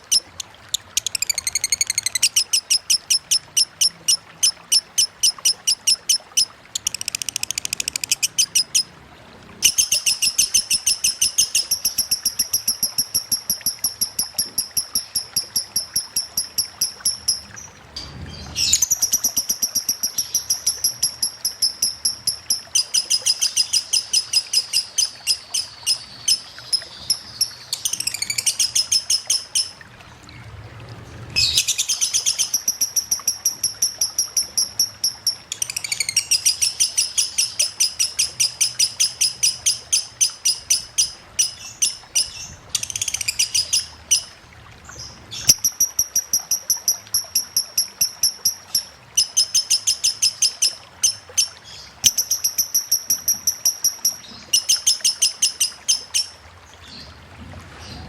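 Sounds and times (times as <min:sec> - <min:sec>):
lovebird chirping rapidly: 0:00.0 - 0:08.9, 0:09.6 - 0:17.7, 0:18.3 - 0:29.8, 0:31.4 - 0:44.3, 0:45.4 - 0:56.3.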